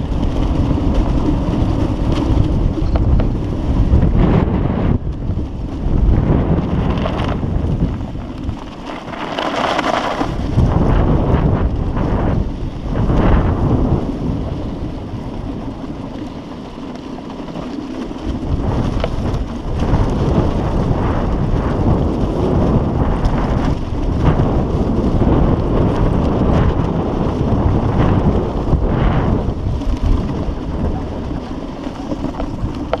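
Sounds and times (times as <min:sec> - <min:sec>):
gusty wind buffeting microphone: 0:00.0 - 0:33.0.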